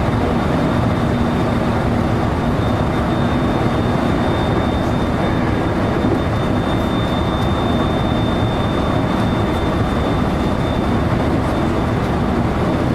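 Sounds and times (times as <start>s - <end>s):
high whine: 0.0s - 12.9s
train interior low rumble: 0.0s - 12.9s.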